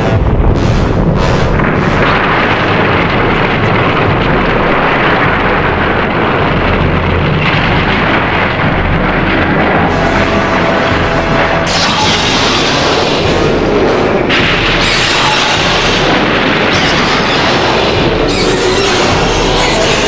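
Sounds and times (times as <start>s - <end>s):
rushing rumbling battle effects: 0.0s - 20.0s.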